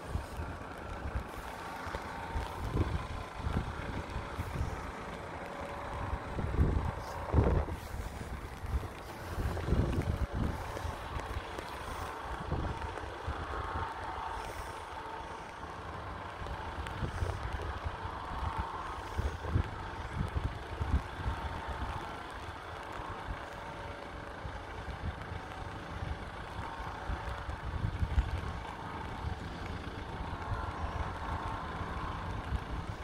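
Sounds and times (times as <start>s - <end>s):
faint train engine hum: 0.0s - 33.0s
wind rumbling on microphone: 0.0s - 33.0s.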